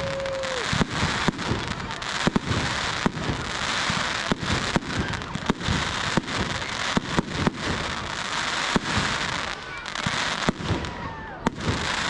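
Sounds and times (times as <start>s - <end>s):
fireworks crackling: 0.0s - 12.0s
fireworks sharp bangs: 0.0s - 12.0s.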